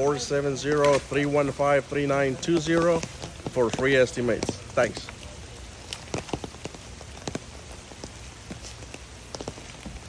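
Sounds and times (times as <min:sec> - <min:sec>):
rain falling: 0:00.6 - 0:10.0
raindrops ticking on surfaces: 0:00.6 - 0:10.0.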